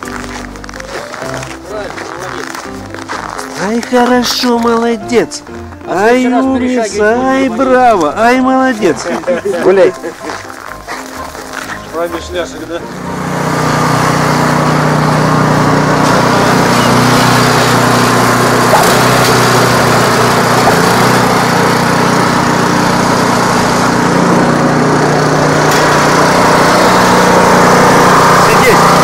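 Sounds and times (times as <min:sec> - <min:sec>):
snowblower engine running: 0:00.0 - 0:06.3, 0:07.0 - 0:29.0.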